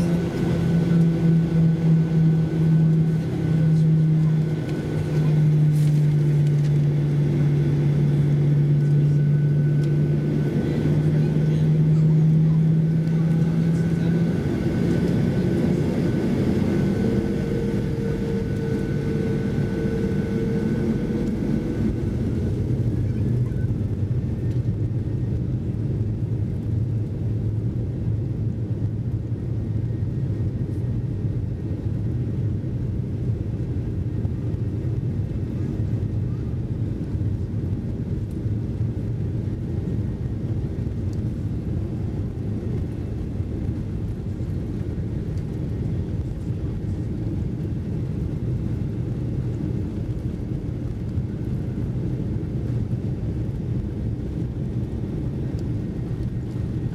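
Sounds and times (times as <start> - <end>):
faint engine whine: 0.0 - 56.9
jet engines rumbling: 0.0 - 56.9.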